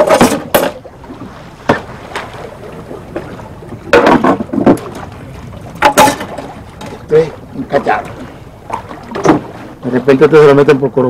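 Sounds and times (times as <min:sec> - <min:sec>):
water splashing against boat hull: 0:00.0 - 0:11.0
wind and water rushing: 0:00.0 - 0:11.0.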